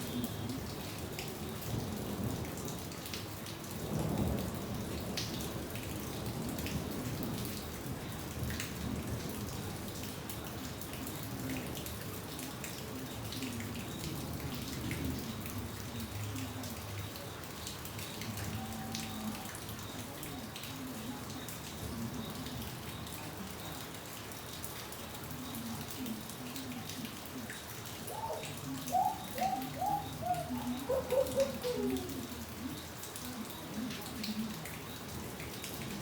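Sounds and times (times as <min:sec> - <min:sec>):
raindrops ticking on a surface: 0:00.0 - 0:36.0.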